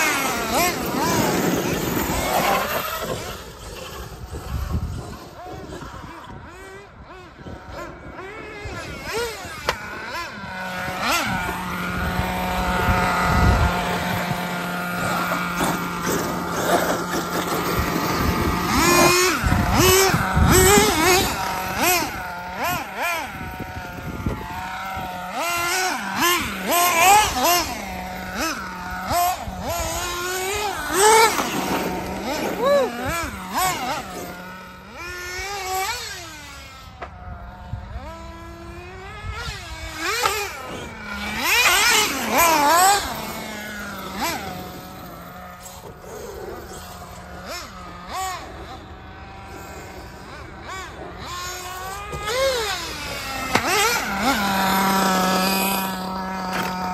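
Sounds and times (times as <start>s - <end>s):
rc car motors revving: 0.0s - 56.9s.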